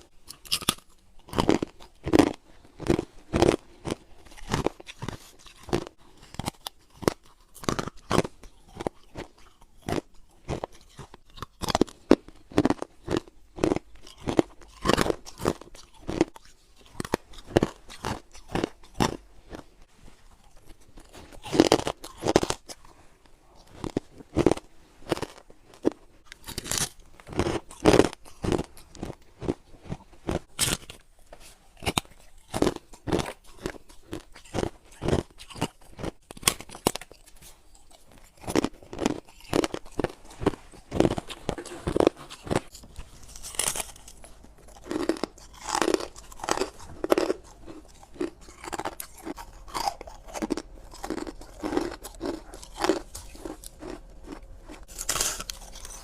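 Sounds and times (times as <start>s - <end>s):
chewing ice cubes crunching: 0.0s - 23.0s, 23.6s - 56.0s.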